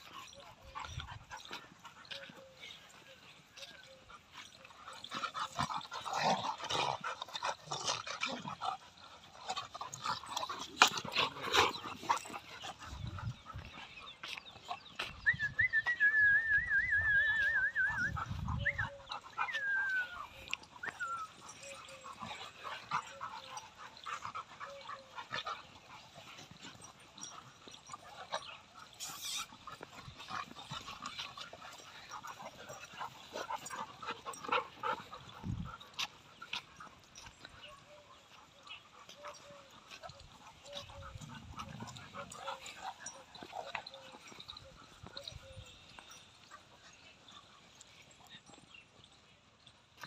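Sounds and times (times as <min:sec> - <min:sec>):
dogs yipping: 0:00.0 - 0:48.6.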